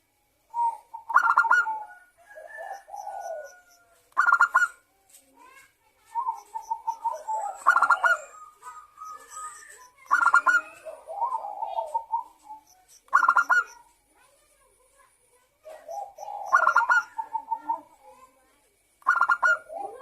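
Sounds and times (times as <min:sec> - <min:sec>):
dove cooing: 0:00.0 - 0:04.9, 0:06.1 - 0:13.9, 0:15.6 - 0:18.3, 0:19.0 - 0:20.0.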